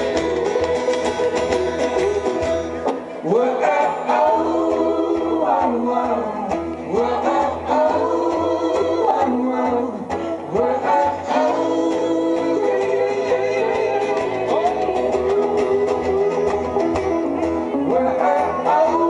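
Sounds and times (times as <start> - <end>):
banjo: 0.0 - 19.0
plucked guitar: 0.0 - 19.0
upright bass notes: 0.0 - 19.0.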